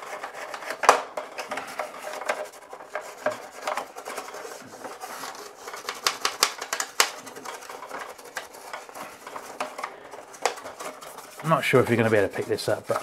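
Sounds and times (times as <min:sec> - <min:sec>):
toothbrush scrubbing plastic: 0:00.0 - 0:13.0
bristles clicking on plastic edges: 0:00.4 - 0:11.3.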